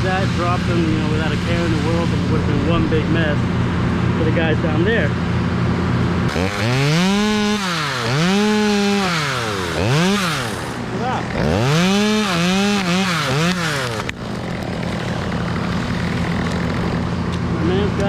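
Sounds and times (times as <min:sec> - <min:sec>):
chainsaw revving: 0:00.0 - 0:03.1, 0:06.2 - 0:18.0
low engine hum: 0:00.0 - 0:18.0.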